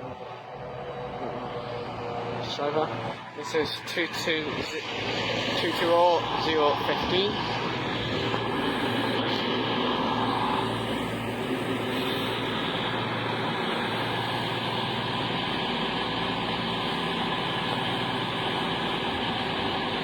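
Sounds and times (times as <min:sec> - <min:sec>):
diesel train engine idling hum: 0:00.0 - 0:20.0.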